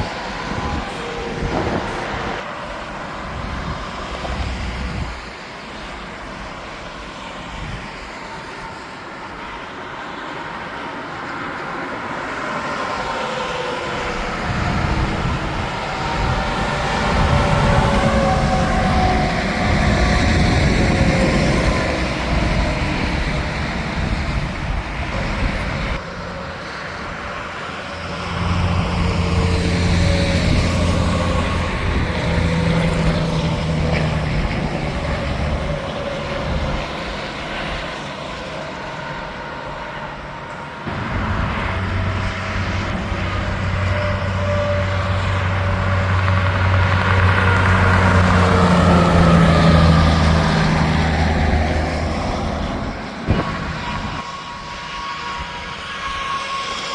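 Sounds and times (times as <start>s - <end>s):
trucks passing on highway: 0.0s - 56.9s.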